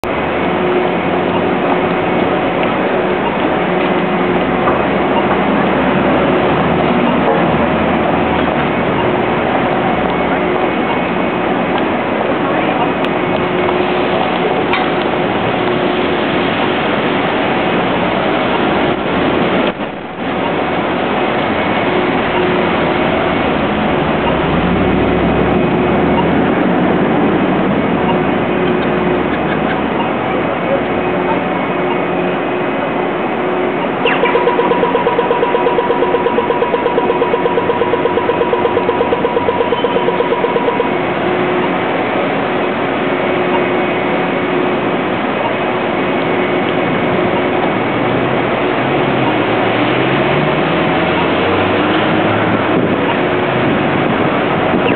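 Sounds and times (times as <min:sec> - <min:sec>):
busy street traffic: 0:00.0 - 0:54.9
heavy engine rumbling low: 0:00.0 - 0:54.9.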